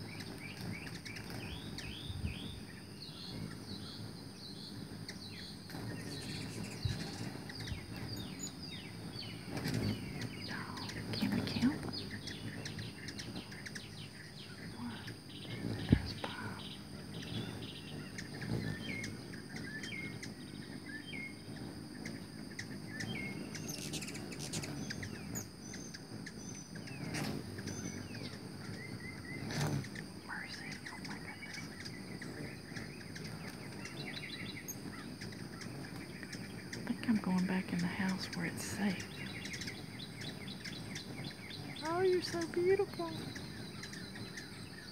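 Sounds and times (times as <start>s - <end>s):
high insect drone: 0.0s - 44.9s
hummingbirds chirping: 0.0s - 44.9s
wings whirring: 0.0s - 44.9s.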